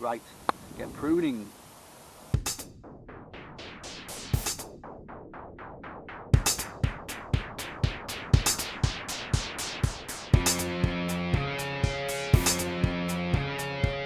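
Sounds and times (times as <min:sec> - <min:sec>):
drum-machine beat: 0:02.3 - 0:14.0.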